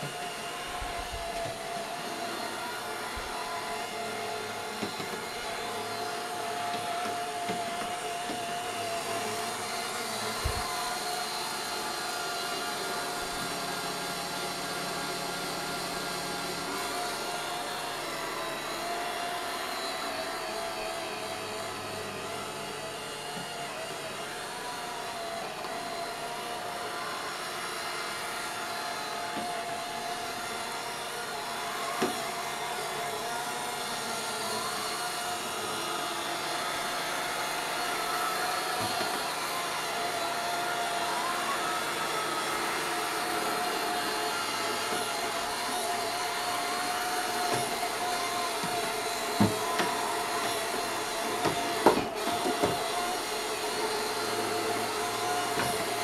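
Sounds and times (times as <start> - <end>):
robot vacuum whirring: 0.0 - 56.0.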